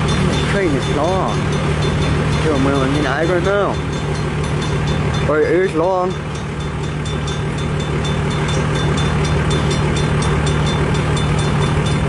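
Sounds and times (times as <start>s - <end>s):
freight train rolling past: 0.0s - 12.0s
steel wheels rumbling on rails: 0.0s - 12.0s.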